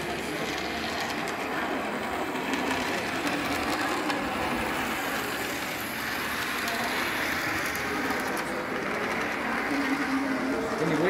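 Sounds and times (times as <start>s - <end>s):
model train motor whirring: 0.0s - 11.0s.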